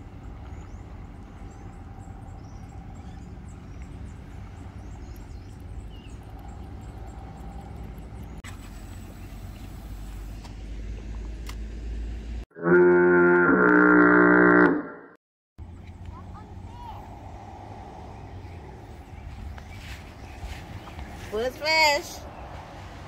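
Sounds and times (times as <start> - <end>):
road traffic rumble: 0.0 - 12.5, 15.6 - 23.0.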